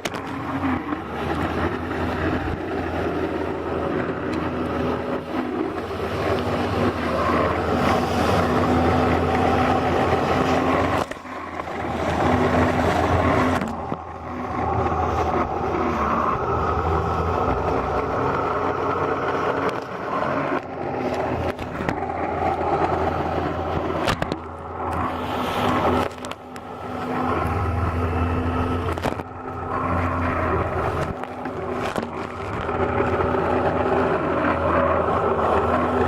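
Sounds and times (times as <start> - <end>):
jet ski engine running: 0.0 - 36.0
rush of wind and water: 0.0 - 36.0.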